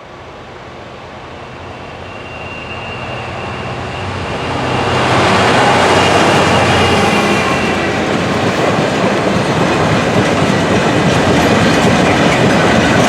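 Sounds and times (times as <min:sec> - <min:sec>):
train approaching: 0:00.0 - 0:13.0.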